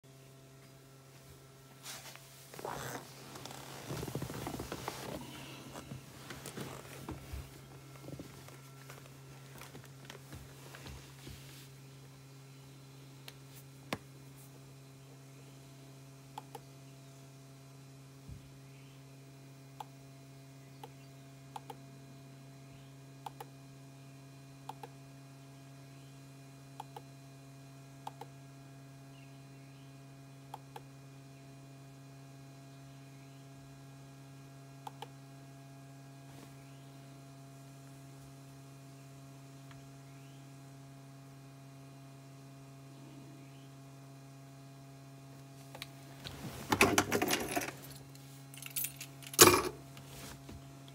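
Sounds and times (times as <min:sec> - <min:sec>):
low electrical hum: 0:00.0 - 0:50.9.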